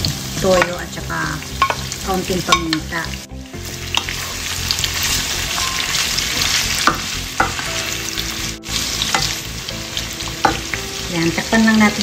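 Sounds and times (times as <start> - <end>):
pork sizzling in hot oil: 0.0 - 12.0.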